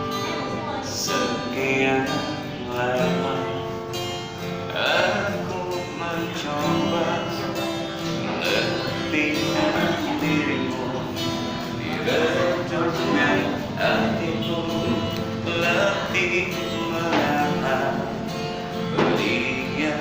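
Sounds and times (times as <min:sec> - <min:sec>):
acoustic guitar strumming: 0:00.0 - 0:20.0
man singing: 0:00.0 - 0:20.0.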